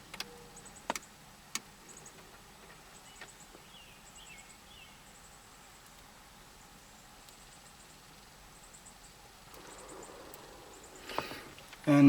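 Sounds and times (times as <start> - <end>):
bird chirps: 0.0 - 1.2, 1.8 - 5.9, 6.6 - 11.5
insect chirps: 0.0 - 12.0.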